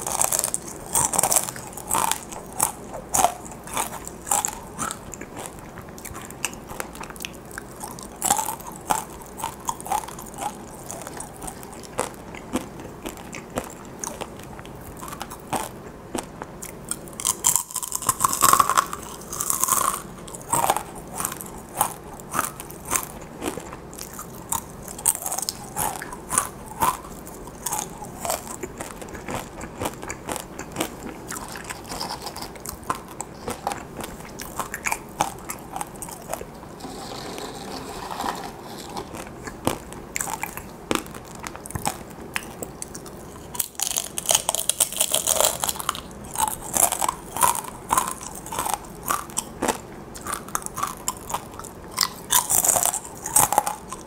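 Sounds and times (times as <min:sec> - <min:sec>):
crunching and chewing chips: 0:00.0 - 0:54.0.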